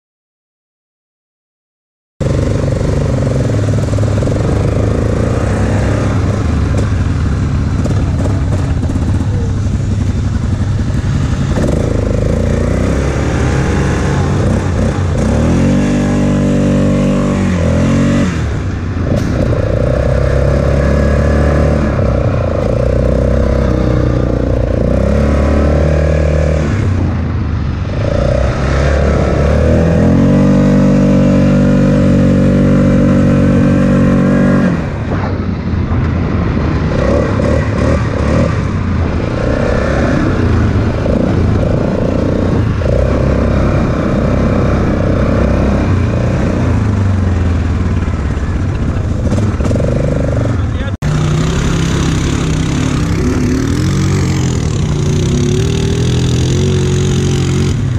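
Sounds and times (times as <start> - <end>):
atv engine running: 2.2 - 57.9.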